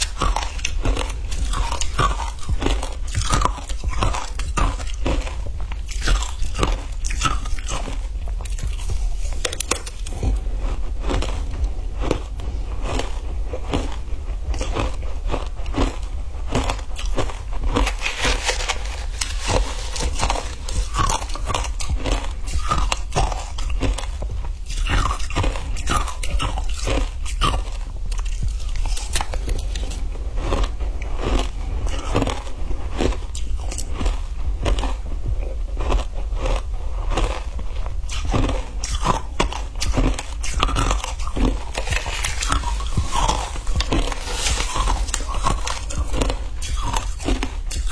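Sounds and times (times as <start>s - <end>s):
ice crunching between teeth: 0.0s - 34.0s, 38.1s - 47.9s.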